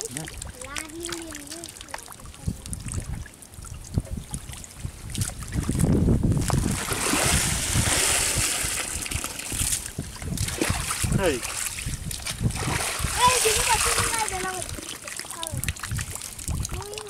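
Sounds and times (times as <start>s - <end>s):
muddy water sloshing and splashing: 0.0s - 17.0s
water pouring through basket: 0.0s - 17.0s.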